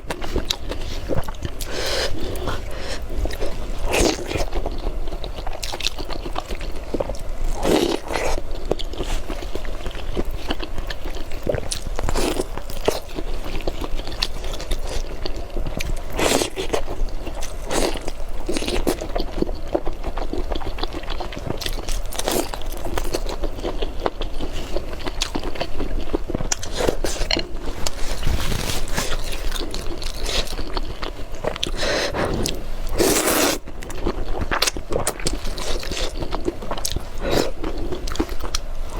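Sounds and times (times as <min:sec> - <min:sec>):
person chewing and crunching: 0:00.0 - 0:38.9.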